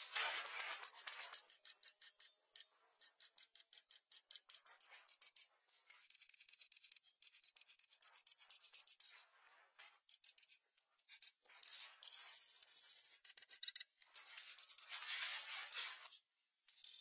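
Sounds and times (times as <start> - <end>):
crayon scratching on paper: 0.0 - 1.8, 4.1 - 16.2.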